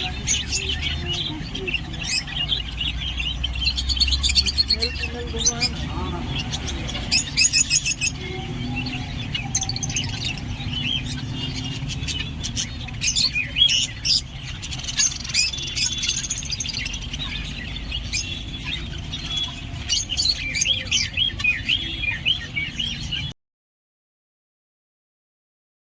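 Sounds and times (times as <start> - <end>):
parrots chirping and squawking: 0.0 - 23.3.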